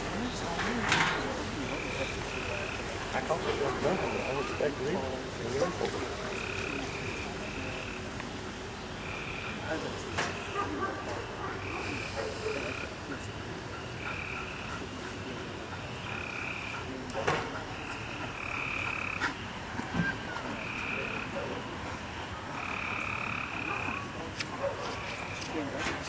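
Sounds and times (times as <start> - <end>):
frogs calling: 1.3 - 5.0, 5.6 - 25.5.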